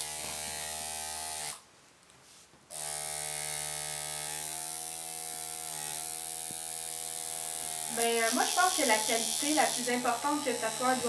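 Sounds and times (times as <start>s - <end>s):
tattoo machine buzzing: 0.0s - 1.6s, 2.7s - 11.0s.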